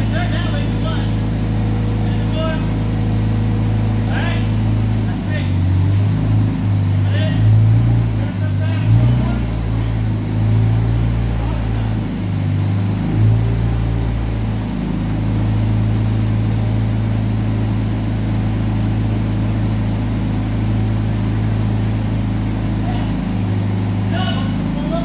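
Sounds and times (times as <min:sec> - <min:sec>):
forklift engine droning: 0:00.0 - 0:25.0.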